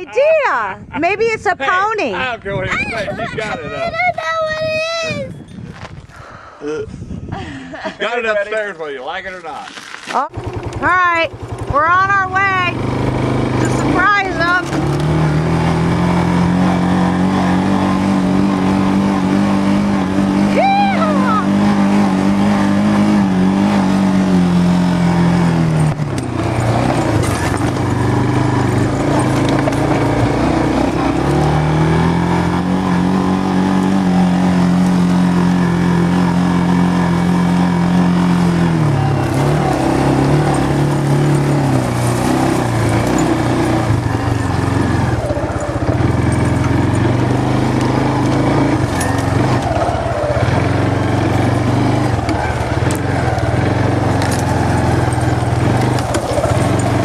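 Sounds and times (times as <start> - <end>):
vehicle engine running: 8.9 - 57.0.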